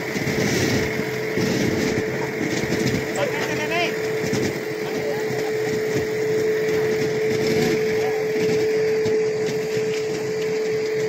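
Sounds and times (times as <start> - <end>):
diesel locomotive running: 0.0 - 11.0.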